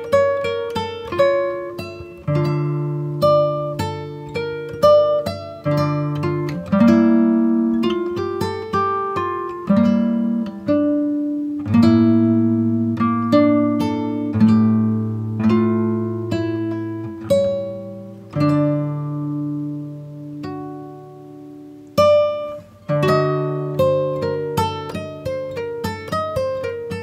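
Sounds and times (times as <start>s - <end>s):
plucked guitar notes and chords: 0.0s - 27.0s.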